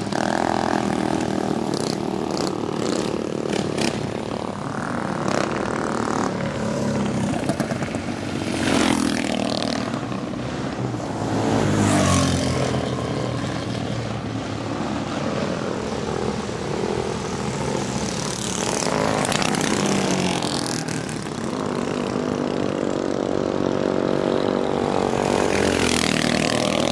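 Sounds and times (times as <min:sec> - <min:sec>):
mini bike engine revving: 0:00.0 - 0:26.9.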